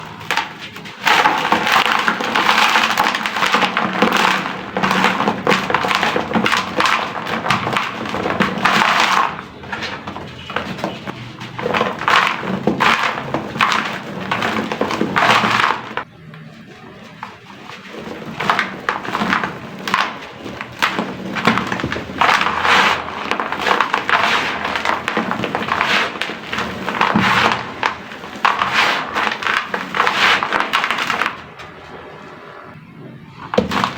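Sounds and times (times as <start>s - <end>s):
sand-cement chunks crumbling into water: 0.0s - 16.1s, 17.1s - 31.6s, 33.5s - 33.9s.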